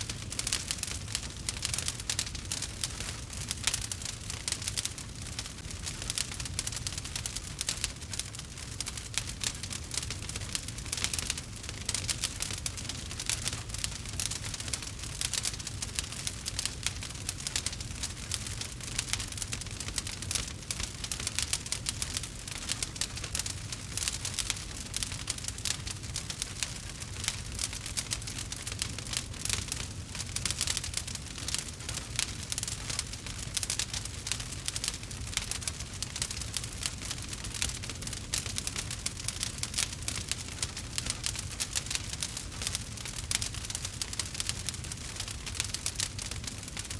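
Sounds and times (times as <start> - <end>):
log fire crackling: 0.0 - 46.9.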